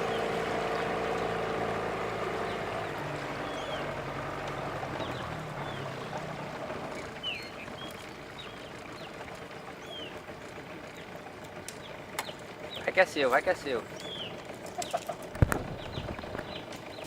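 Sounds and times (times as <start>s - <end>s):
birds chirping: 0.0s - 1.4s, 2.0s - 17.0s
boat motor humming: 0.0s - 17.0s.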